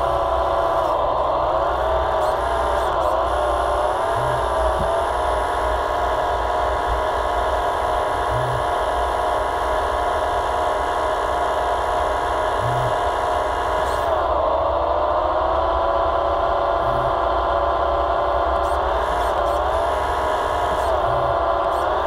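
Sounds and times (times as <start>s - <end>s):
electric hydraulic pump whining: 0.0s - 22.0s.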